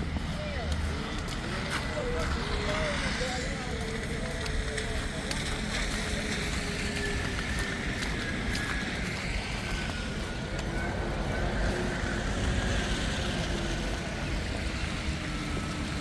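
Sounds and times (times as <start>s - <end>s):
city street noise: 0.0s - 16.0s.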